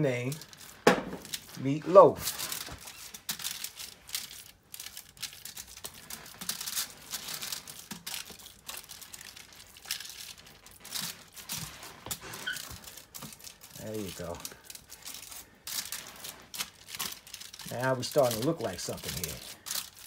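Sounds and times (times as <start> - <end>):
aluminium foil crinkling: 0.0 - 20.0
wet ground meat squishing: 0.0 - 20.0.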